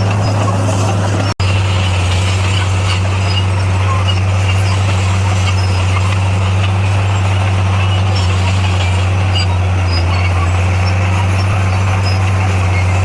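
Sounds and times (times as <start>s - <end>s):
bulldozer diesel engine humming: 0.0s - 13.0s.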